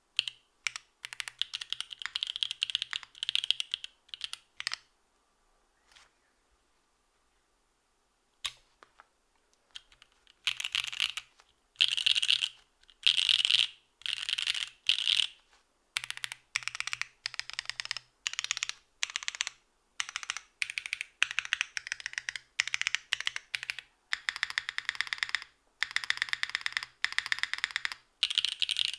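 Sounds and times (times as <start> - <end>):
typing on a keyboard: 0.2 - 4.9, 9.7 - 15.4, 16.0 - 28.9.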